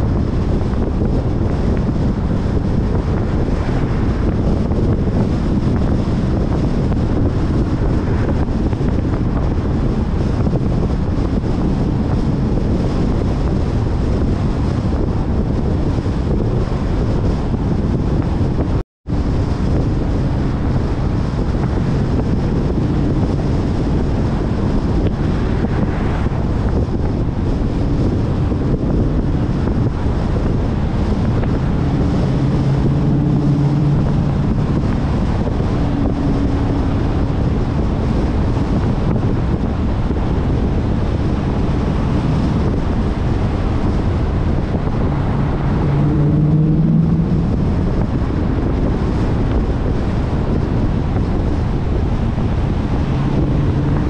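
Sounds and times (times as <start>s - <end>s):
car engine hum: 0.0s - 54.0s
road noise: 0.0s - 54.0s
wind buffeting microphone: 0.0s - 54.0s.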